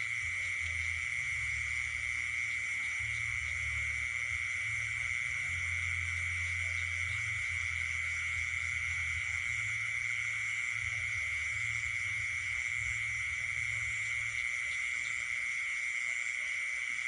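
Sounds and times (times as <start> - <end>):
high-pitched insect trill: 0.0 - 17.0
low pulsing hum: 0.0 - 17.0.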